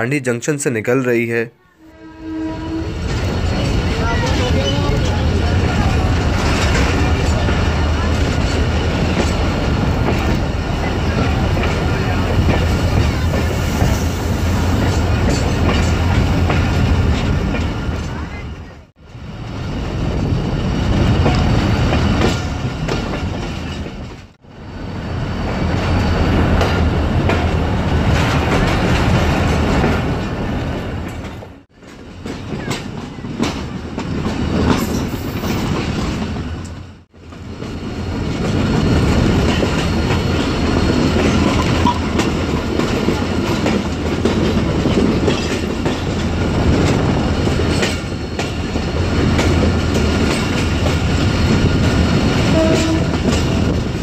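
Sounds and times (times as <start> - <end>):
train wheels rumbling on rail: 2.1 - 54.0
clickety-clack of rail joints: 3.0 - 14.1, 14.7 - 18.7, 20.1 - 24.4, 25.4 - 54.0.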